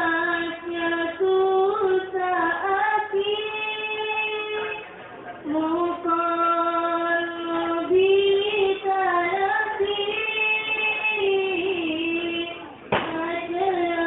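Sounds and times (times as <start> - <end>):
young female voice singing: 0.0 - 4.8, 5.4 - 14.0.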